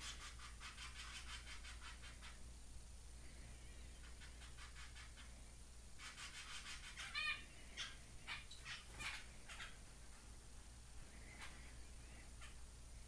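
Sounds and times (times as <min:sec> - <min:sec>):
zebra finches chirping: 0:00.0 - 0:02.4, 0:03.4 - 0:10.2, 0:11.1 - 0:12.6.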